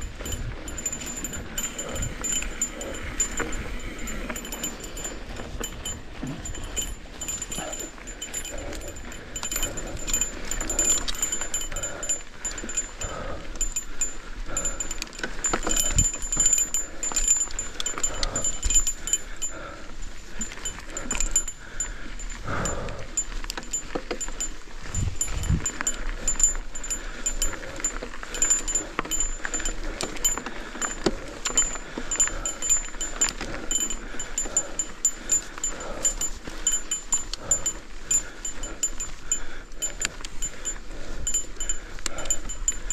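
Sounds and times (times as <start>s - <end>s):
bike clattering and rattling: 0.0s - 42.9s.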